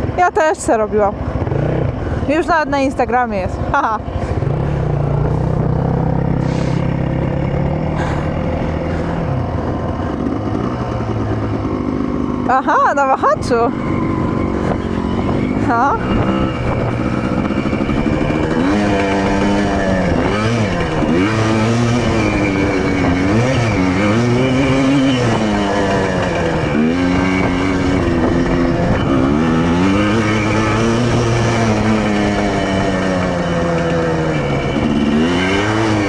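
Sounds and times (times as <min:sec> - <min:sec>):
two-stroke quad engine revving: 0:00.0 - 0:36.0.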